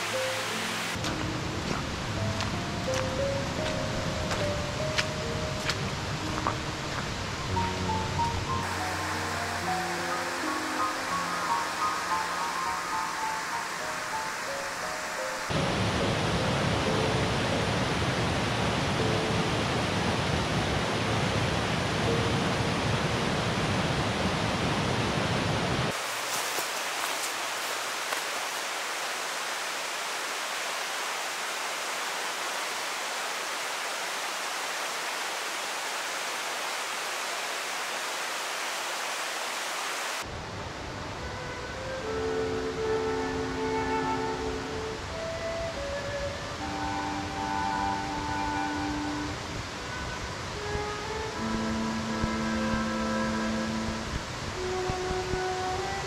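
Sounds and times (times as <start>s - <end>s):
mountain creek water rushing: 0.0s - 56.0s.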